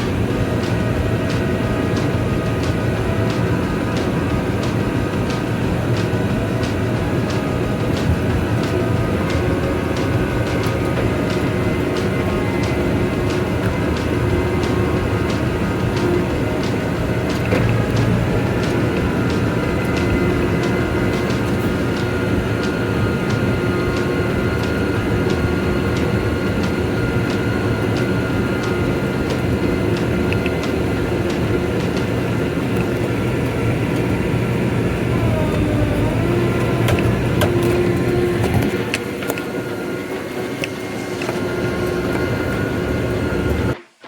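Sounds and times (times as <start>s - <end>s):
motor running: 0.0s - 43.8s.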